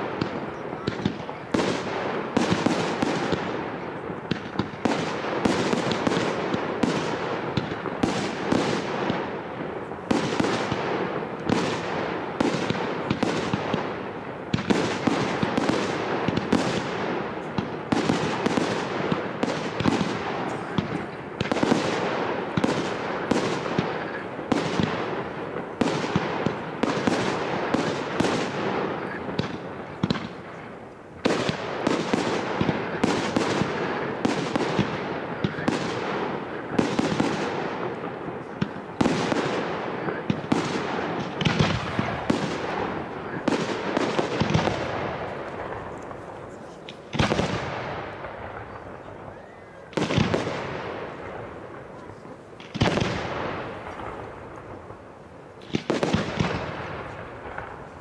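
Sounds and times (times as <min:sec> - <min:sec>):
fireworks bursting with echo: 0:00.0 - 0:58.0.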